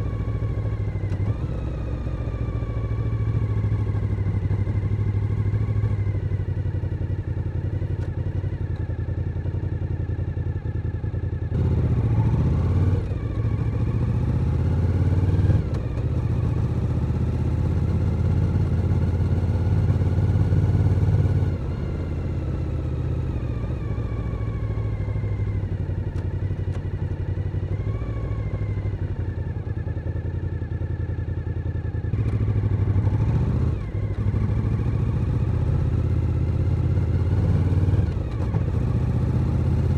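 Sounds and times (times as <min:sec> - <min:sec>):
motorcycle engine revving: 0:00.0 - 0:08.8, 0:11.4 - 0:39.9.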